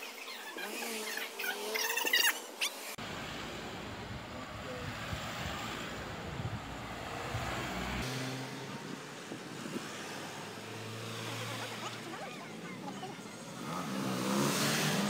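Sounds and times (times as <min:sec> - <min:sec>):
vehicles driving past: 0:00.1 - 0:15.0.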